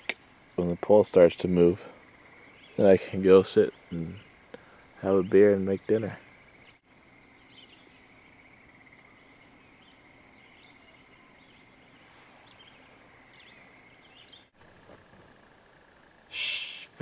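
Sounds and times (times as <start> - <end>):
distant bird chirps: 0.0 - 16.8
high insect drone: 0.3 - 17.0.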